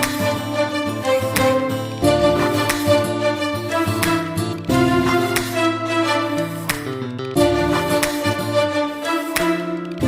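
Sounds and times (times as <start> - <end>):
melodic instrumental music with beat: 0.0 - 10.0.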